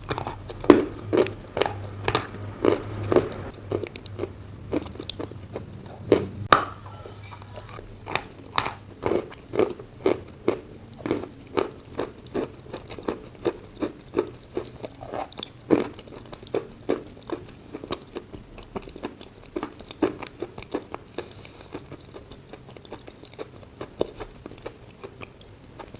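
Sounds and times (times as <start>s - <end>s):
chewing crunchy chalk: 0.0s - 25.9s.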